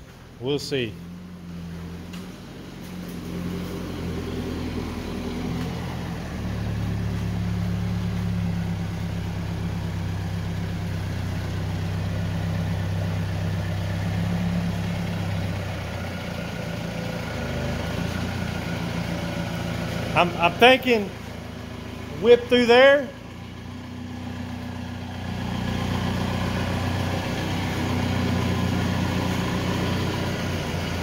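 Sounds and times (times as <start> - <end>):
vehicle engine revving: 0.8 - 31.0.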